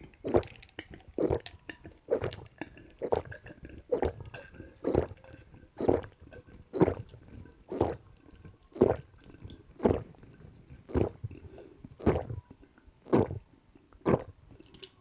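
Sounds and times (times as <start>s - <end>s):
person gulping a drink: 0.0s - 15.0s.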